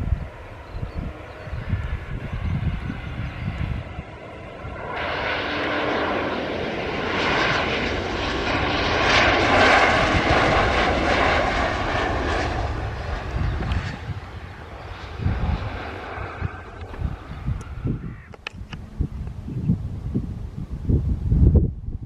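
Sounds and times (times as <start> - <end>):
airplane engines passing by: 0.0 - 22.0.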